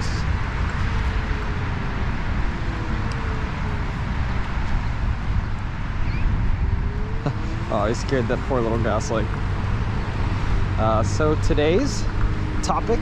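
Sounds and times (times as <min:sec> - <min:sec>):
road rumble: 0:00.0 - 0:13.0
wind: 0:00.0 - 0:13.0.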